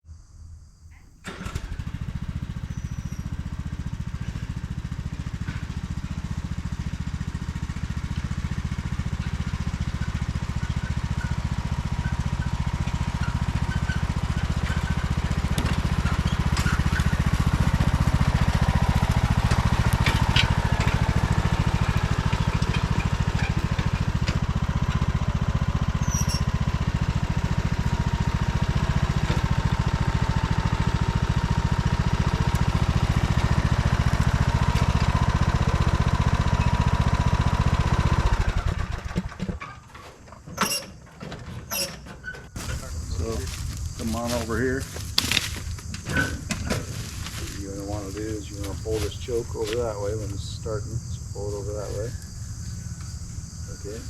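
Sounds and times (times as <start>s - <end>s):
wood chipper engine running: 1.2s - 54.0s.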